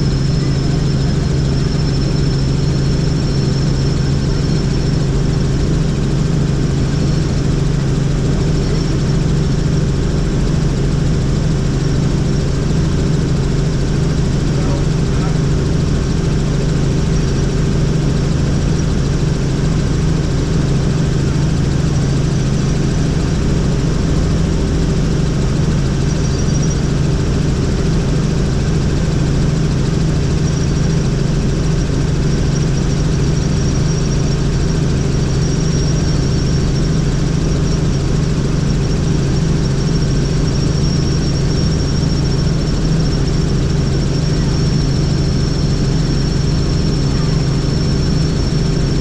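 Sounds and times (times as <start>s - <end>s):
helicopter rotor and engine drone: 0.0s - 49.0s
thin high whine: 0.0s - 49.0s.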